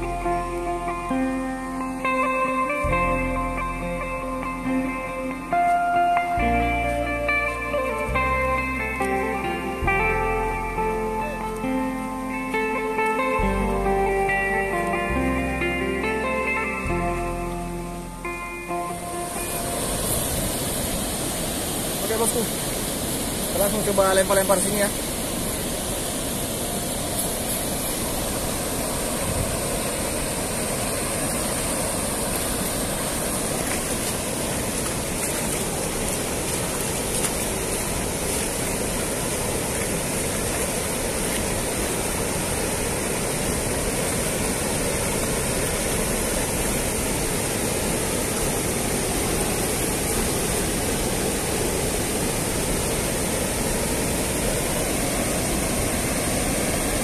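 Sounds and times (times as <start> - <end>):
river water pouring over weir: 0.0 - 57.0.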